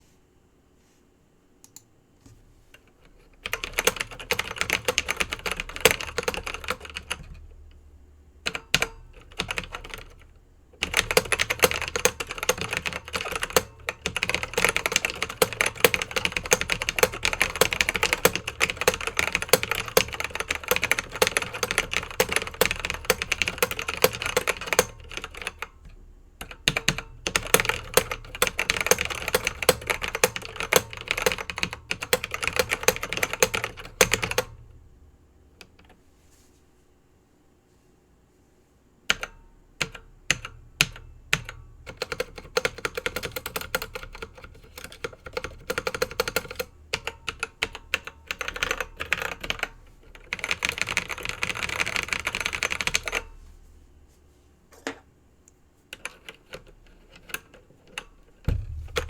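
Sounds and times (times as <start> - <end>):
clacking keyboard keystrokes: 2.8 - 7.8, 8.5 - 34.7, 39.1 - 53.3, 55.9 - 59.0.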